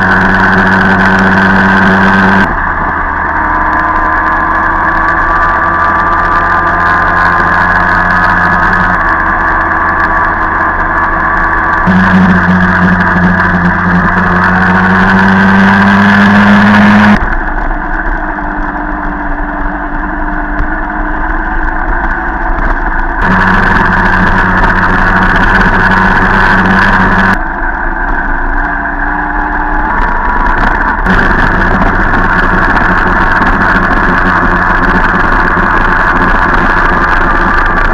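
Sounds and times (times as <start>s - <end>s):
moped engine running: 0.0s - 37.9s
wind and road noise: 0.0s - 37.9s.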